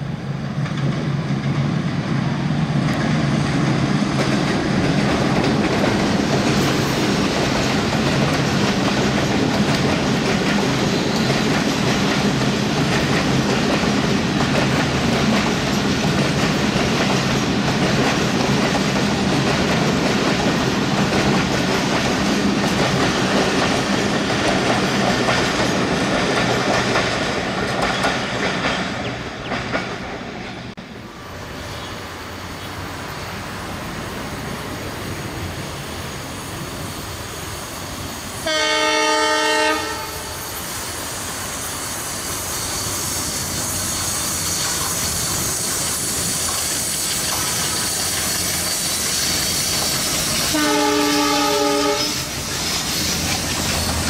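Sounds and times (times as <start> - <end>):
train wheels clattering on rails: 0.4 - 30.9, 31.6 - 54.0.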